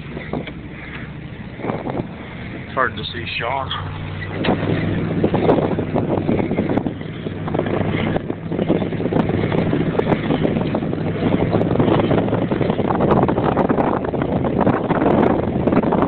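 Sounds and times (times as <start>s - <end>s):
snowmobile engine running: 0.0s - 16.0s
wind buffeting microphone: 0.0s - 16.0s.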